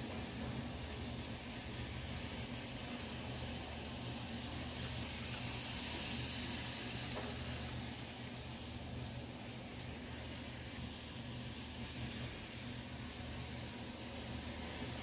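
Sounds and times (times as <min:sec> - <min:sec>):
model train wheels rushing on rail: 0:00.0 - 0:15.0
steady low hum: 0:00.0 - 0:15.0.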